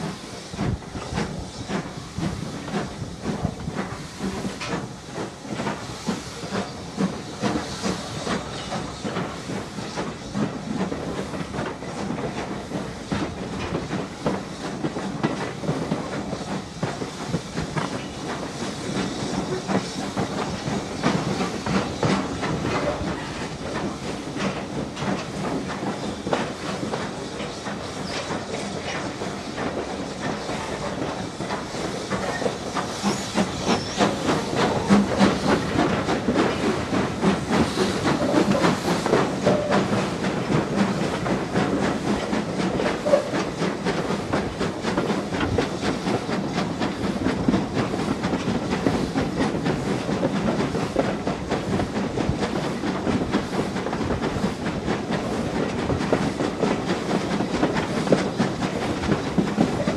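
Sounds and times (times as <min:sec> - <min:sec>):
hissing steam: 0:00.0 - 0:59.9
steam locomotive exhaust beats: 0:00.0 - 0:59.9.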